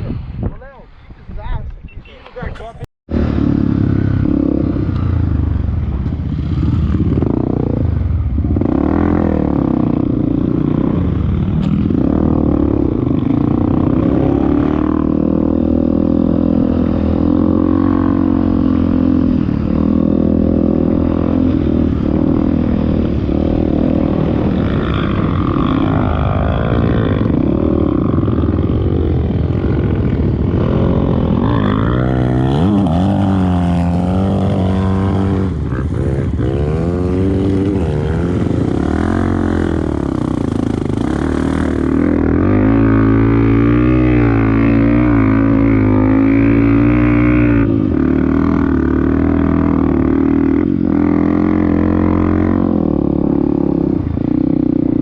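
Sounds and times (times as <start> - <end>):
motorcycle engine revving: 3.1 - 55.0.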